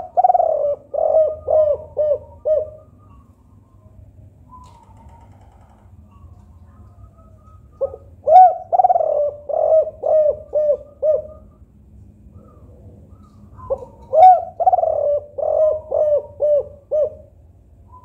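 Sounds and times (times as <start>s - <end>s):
dove cooing: 0.0s - 3.3s, 4.5s - 11.6s, 12.4s - 18.0s.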